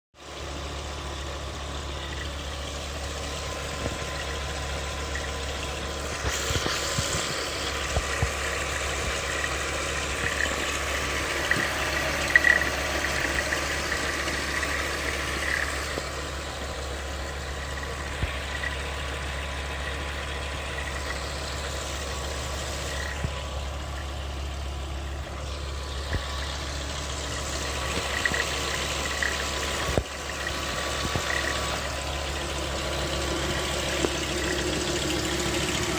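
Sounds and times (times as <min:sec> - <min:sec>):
car engine idling: 0:00.2 - 0:35.9
engine ticks: 0:00.2 - 0:35.9.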